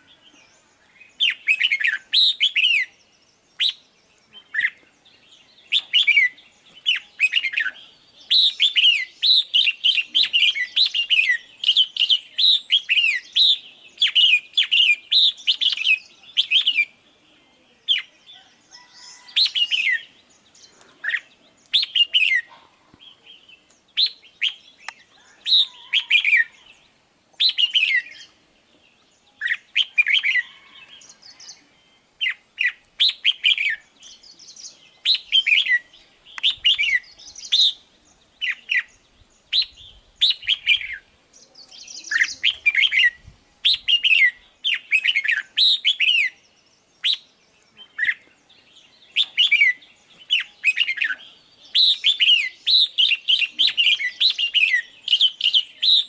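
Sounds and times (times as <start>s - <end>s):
bird singing whistled phrases: 0.0s - 4.8s, 5.5s - 17.0s, 21.0s - 22.5s, 23.2s - 26.7s, 27.4s - 28.4s, 29.4s - 37.8s, 38.4s - 48.2s, 49.0s - 56.0s.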